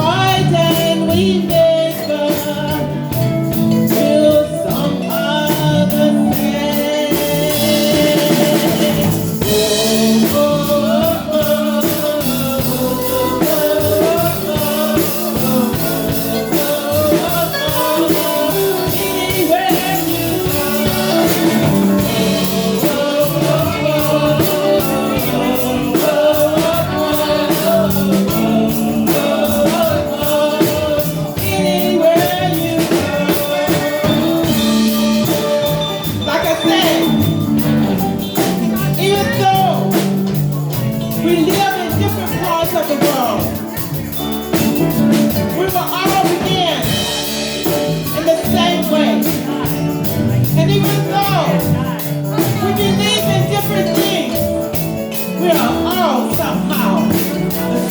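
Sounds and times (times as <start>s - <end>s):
drum kit and instruments: 0.0s - 57.9s
person singing: 0.0s - 57.9s.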